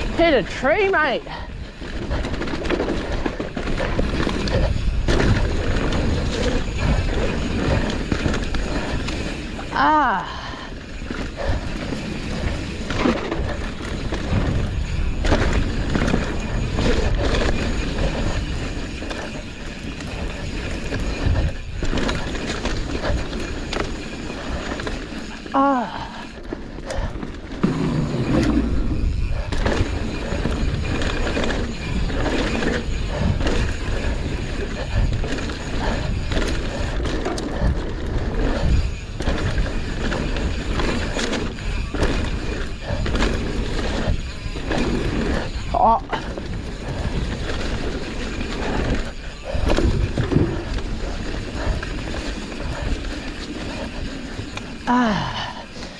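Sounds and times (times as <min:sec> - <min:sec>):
wind and tyre rumble: 0:00.0 - 0:55.9
bike knocks and rattles: 0:01.6 - 0:55.5.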